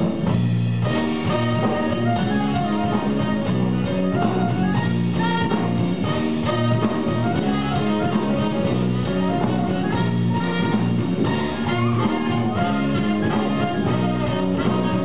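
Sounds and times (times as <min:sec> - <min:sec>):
drum kit: 0:00.0 - 0:15.0
guitar: 0:00.0 - 0:15.0
clarinet: 0:00.8 - 0:15.0.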